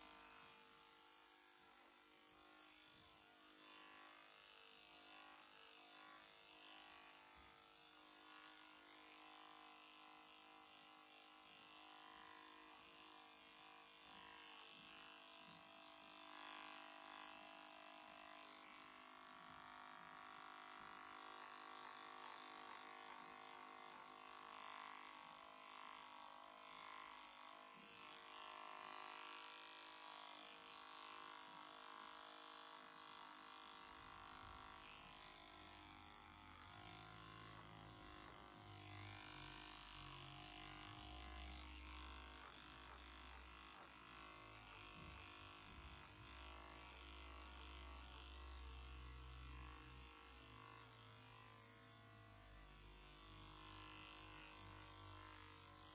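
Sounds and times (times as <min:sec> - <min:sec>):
electric hair clipper running: 0:00.0 - 0:55.9.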